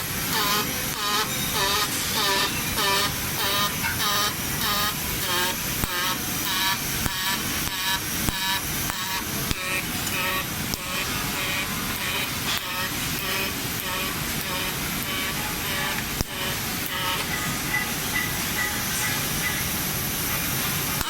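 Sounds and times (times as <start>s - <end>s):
welding arc crackling hiss: 0.0s - 21.0s.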